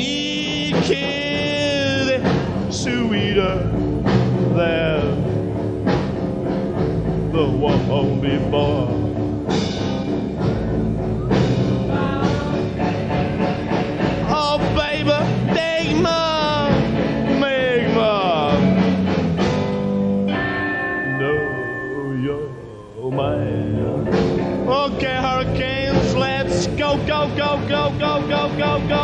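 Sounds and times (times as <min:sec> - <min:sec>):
rock band playing live: 0:00.0 - 0:29.0
sliding lead guitar line: 0:00.0 - 0:29.0.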